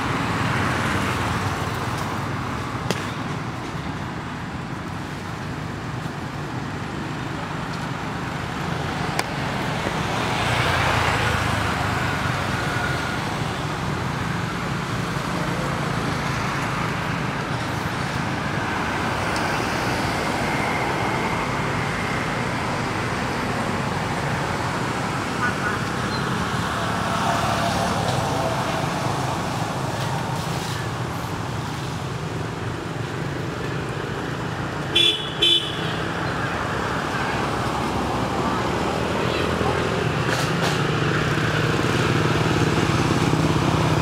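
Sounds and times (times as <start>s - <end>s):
distant road traffic: 0.0s - 44.0s.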